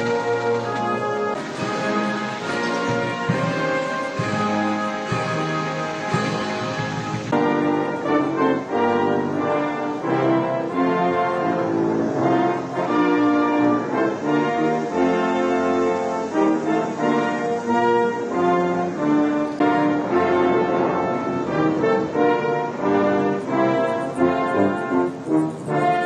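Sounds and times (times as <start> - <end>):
military brass band playing: 0.0 - 26.0.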